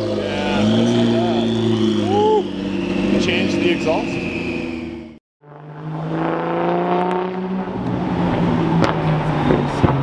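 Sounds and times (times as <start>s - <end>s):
car accelerating: 0.0s - 10.0s
car engine drone: 0.0s - 10.0s.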